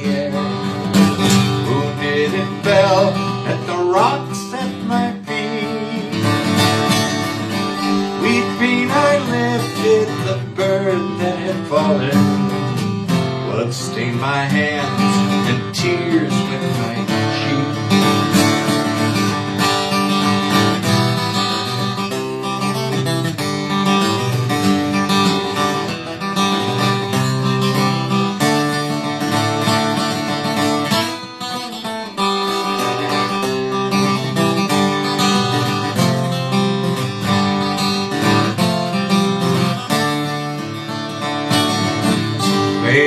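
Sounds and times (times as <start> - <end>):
acoustic guitar picked and strummed: 0.0 - 43.0.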